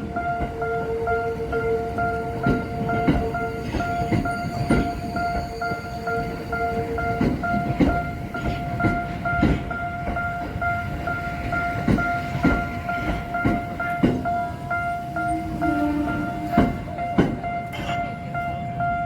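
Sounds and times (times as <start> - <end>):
train wheels knocking on rail joints: 0.0 - 18.5
level crossing warning bell: 0.0 - 19.0.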